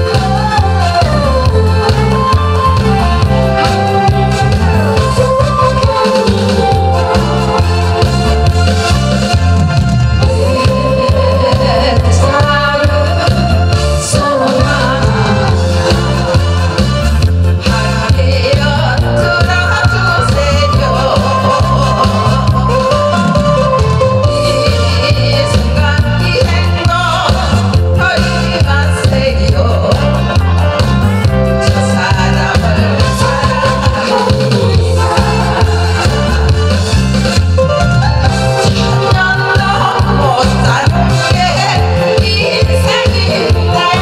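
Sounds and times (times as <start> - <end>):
woman singing into microphone: 0.0 - 37.1, 38.5 - 44.0
backing track with bass beat: 0.0 - 44.0.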